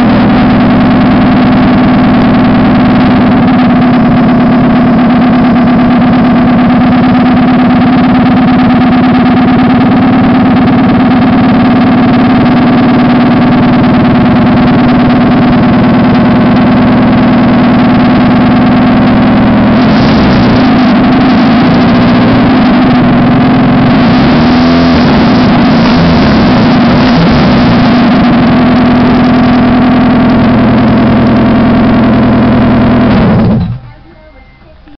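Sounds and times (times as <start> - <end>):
car engine idling and revving: 0.0 - 34.1.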